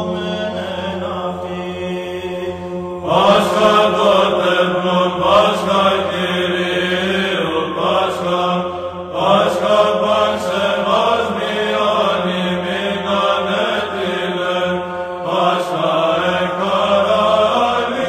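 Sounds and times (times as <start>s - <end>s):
chant melody sung: 0.0s - 18.0s
held vocal drone: 0.0s - 18.0s.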